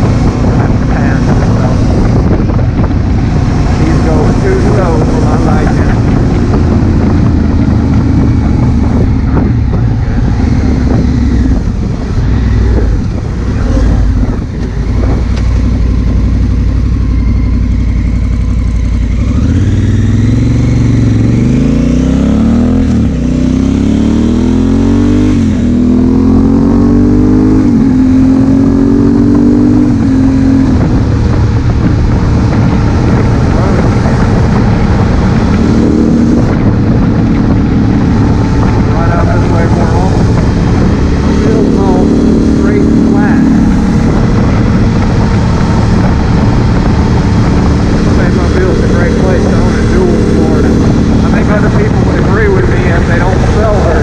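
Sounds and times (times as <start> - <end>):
motorcycle engine accelerating: 0.0 - 54.0
wind rushing over microphone: 0.0 - 54.0.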